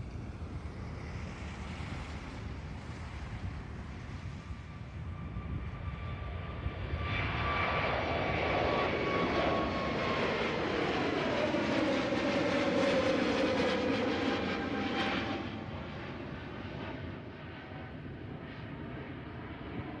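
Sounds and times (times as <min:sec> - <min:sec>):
jet engines roaring past: 0:00.0 - 0:20.0.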